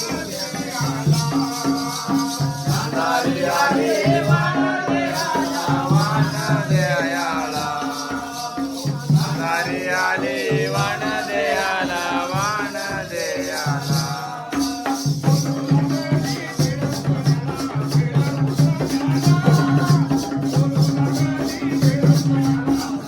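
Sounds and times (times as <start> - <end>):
drum beats: 0.0 - 23.0
person singing: 0.0 - 23.0
rhythmic jingling rattle: 0.0 - 23.0.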